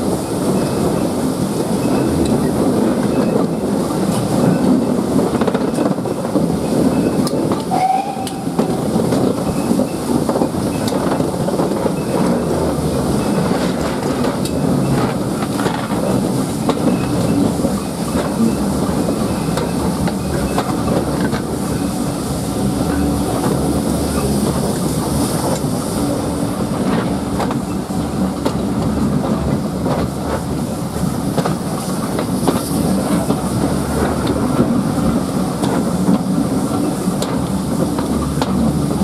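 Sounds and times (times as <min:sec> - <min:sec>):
rail-joint clicks: 0:00.0 - 0:39.0
train wheels rumbling on rails: 0:00.0 - 0:39.0.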